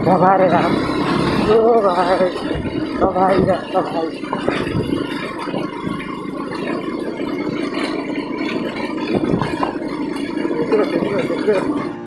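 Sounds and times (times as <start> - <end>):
bike knocks and rattles: 0.0 - 12.0
motorbike engine running: 0.0 - 12.0.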